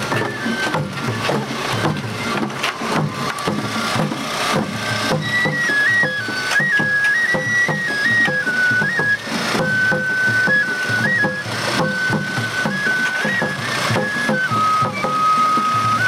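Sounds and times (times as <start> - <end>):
bamboo flute melody: 0.0 - 16.0
taiko drums beating: 0.0 - 16.0.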